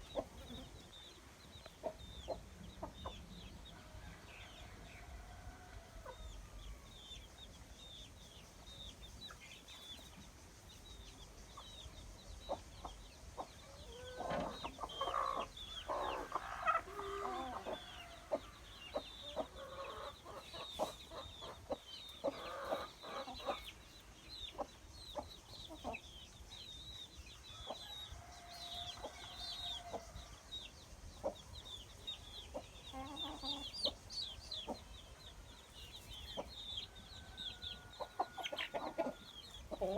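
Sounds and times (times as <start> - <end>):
chickens clucking: 0.0 - 6.9, 9.2 - 39.9.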